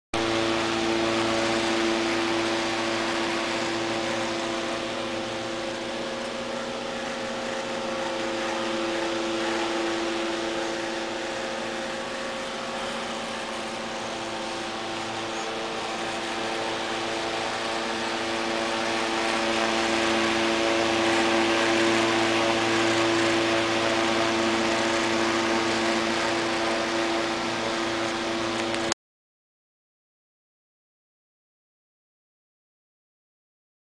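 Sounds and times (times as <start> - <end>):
electric fan motor hum: 0.2 - 29.0
fan blades rushing: 0.2 - 29.0.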